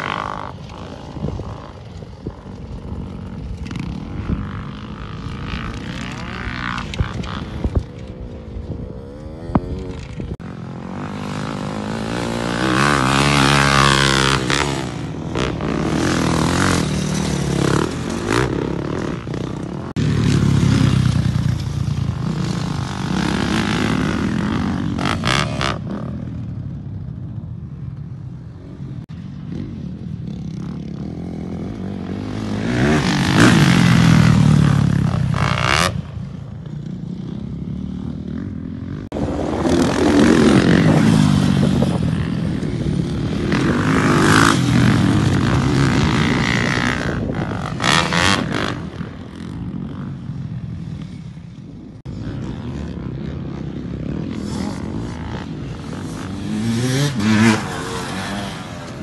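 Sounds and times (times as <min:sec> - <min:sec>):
motocross bike engine revving: 0:00.0 - 0:26.5, 0:30.5 - 0:50.3, 0:52.1 - 0:59.0.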